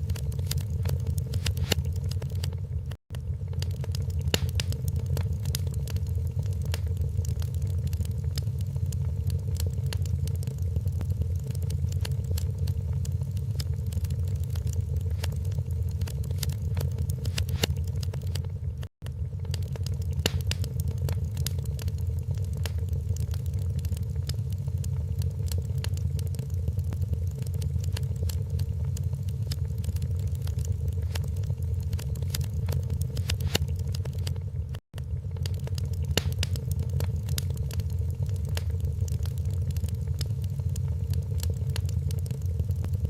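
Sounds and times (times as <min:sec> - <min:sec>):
low fire rumble: 0:00.0 - 0:43.0
sharp pops and snaps: 0:00.0 - 0:43.0
wood fire crackling: 0:00.0 - 0:43.0.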